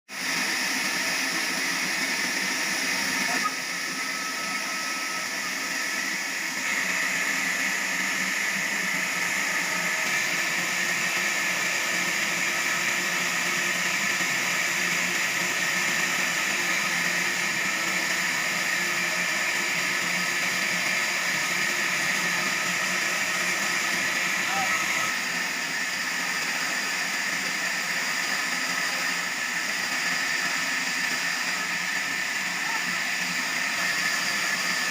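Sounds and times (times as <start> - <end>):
sawmill machinery running: 0.1 - 34.9.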